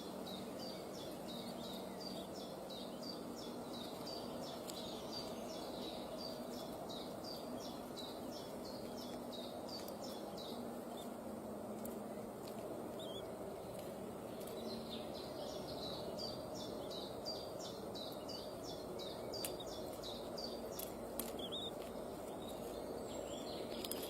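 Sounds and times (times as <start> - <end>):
background hum: 0.0 - 24.0.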